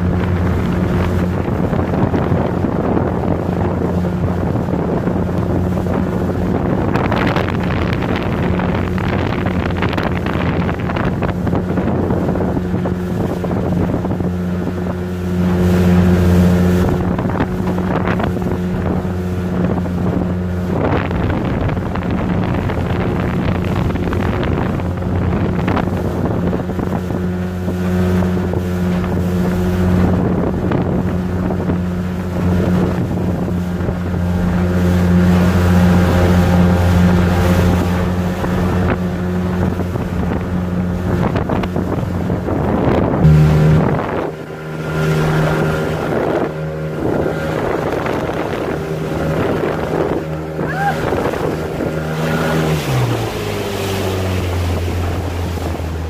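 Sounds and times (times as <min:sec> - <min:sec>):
motorboat engine running: 0:00.0 - 0:56.0
water noise: 0:00.0 - 0:56.0
wind noise on microphone: 0:00.0 - 0:56.0.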